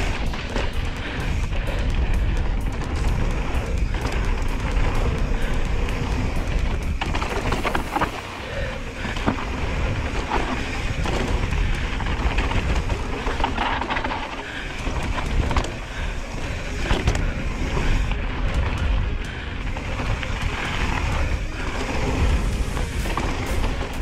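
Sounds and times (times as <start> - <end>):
bike rattling: 0.0 - 24.0
tyres rolling over dirt: 0.0 - 24.0
wind buffeting microphone: 0.0 - 24.0.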